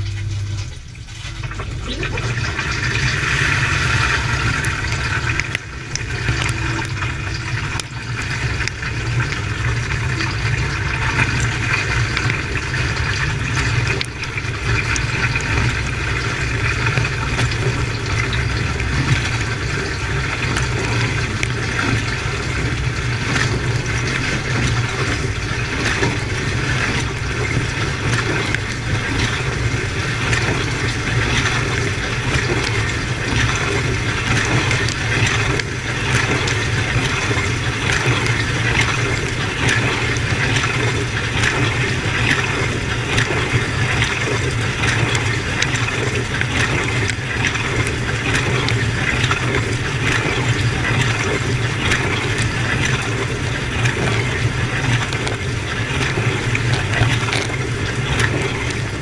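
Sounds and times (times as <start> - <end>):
pump humming: 0.0 - 59.0
water jets splashing: 0.0 - 59.0.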